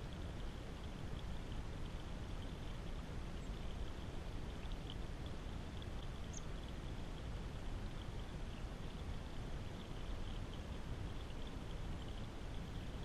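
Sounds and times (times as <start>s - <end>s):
stream trickling over rocks: 0.0s - 13.0s.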